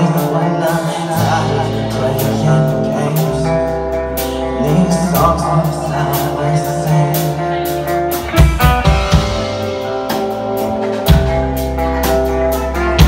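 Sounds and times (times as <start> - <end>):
bass guitar: 0.0 - 13.0
drum kit with cymbal hits: 0.0 - 13.0
electric guitars holding chords: 0.0 - 13.0.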